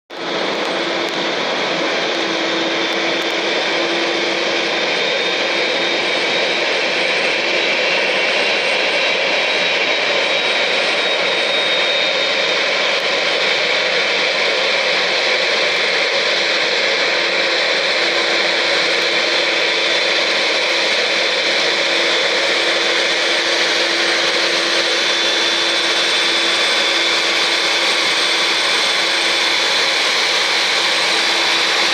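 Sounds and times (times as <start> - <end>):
jet engines idling: 0.1 - 31.9.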